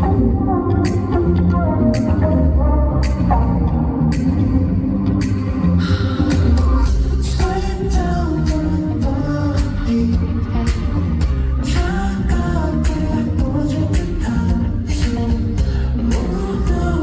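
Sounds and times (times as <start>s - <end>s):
man singing pop song: 0.0s - 3.6s, 5.8s - 17.0s
backing track with bass and drums: 0.0s - 17.0s.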